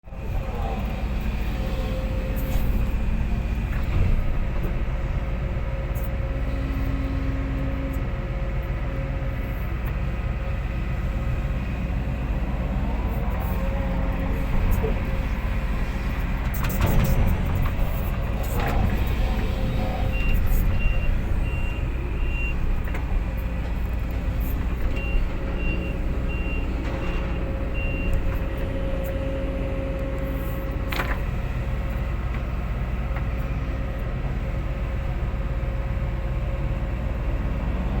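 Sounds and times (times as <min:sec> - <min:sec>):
diesel engine running: 0:00.1 - 0:38.0.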